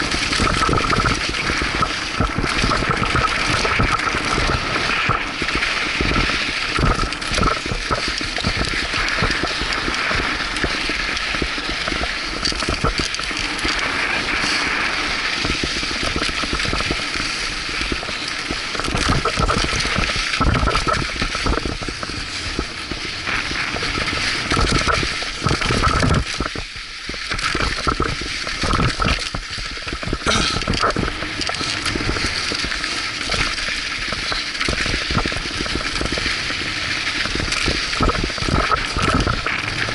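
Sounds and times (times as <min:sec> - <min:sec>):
bike rattling over bumps: 0:00.0 - 0:39.9
tyres rolling over dirt and gravel: 0:00.0 - 0:39.9
wind rushing over microphone: 0:00.0 - 0:39.9.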